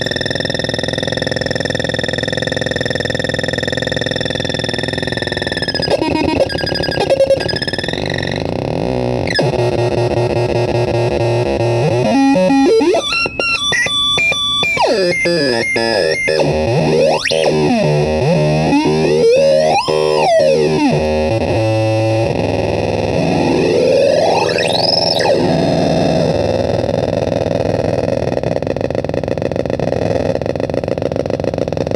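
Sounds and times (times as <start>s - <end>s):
buzzing electronic synth tones: 0.0s - 31.9s.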